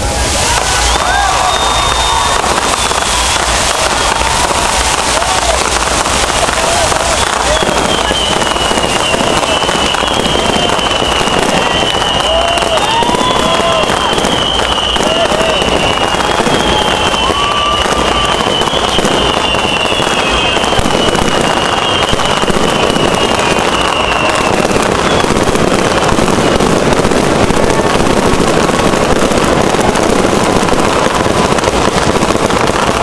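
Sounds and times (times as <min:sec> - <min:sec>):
fireworks crackling and popping: 0:00.0 - 0:33.0
whistling fireworks: 0:00.0 - 0:33.0.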